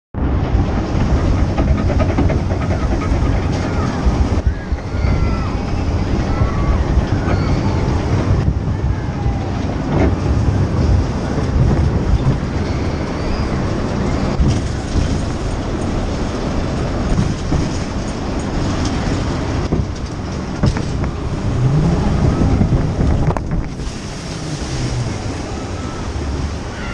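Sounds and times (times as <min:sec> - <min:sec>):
boat engine rumble with clattering: 0:00.1 - 0:26.9.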